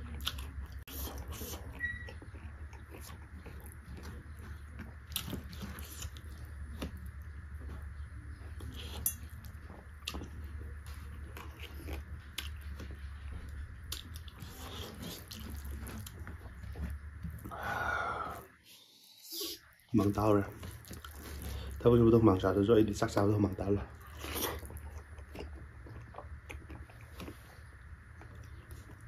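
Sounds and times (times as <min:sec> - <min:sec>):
person chewing wetly: 0:00.0 - 0:18.4, 0:20.0 - 0:22.2, 0:23.4 - 0:29.0
steady low hum: 0:00.0 - 0:29.0.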